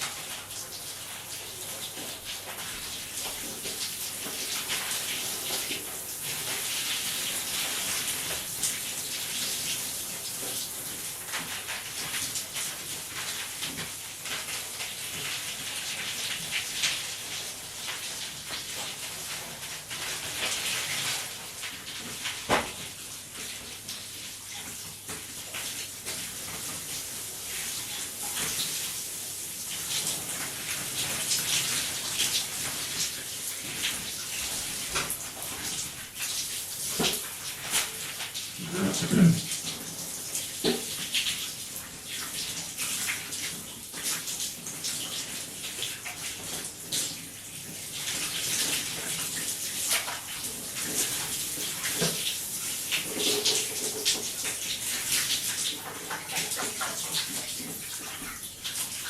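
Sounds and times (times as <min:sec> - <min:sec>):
shower water spraying: 0:00.0 - 0:59.0.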